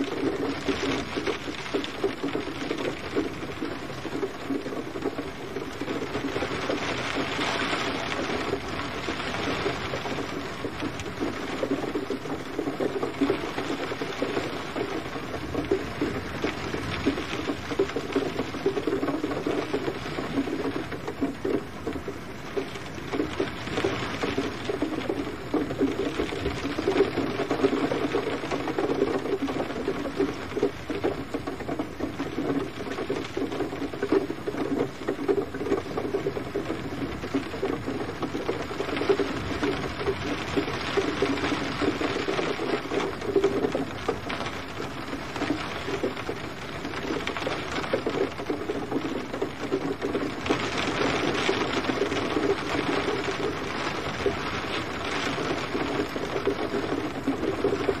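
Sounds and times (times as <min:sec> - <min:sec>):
gentle rain patter: 0:00.0 - 0:58.0.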